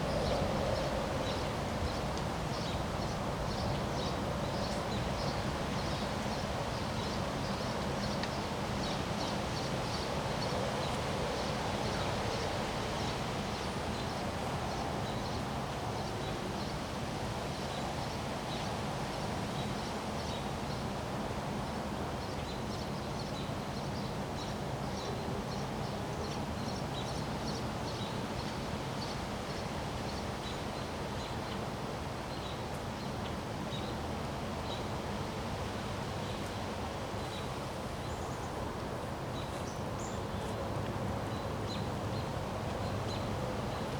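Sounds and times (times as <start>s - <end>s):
wind rustling leaves: 0.0s - 43.9s.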